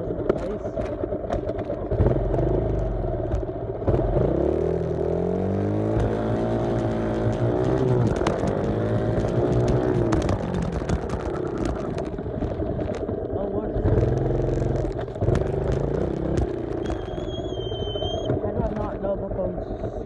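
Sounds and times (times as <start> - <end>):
ride clatter: 0.0 - 20.0
small off-road engine revving: 0.0 - 20.0.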